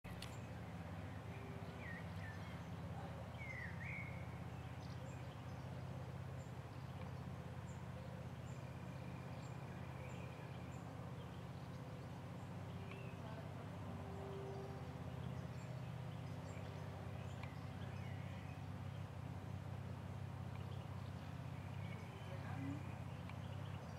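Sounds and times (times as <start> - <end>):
small birds calling: 0.1 - 23.9
steady low hum: 0.1 - 23.9.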